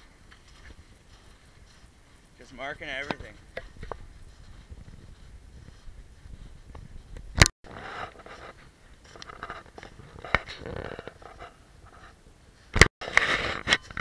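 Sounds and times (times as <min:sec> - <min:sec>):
footsteps crunching in snow: 0:00.0 - 0:14.0.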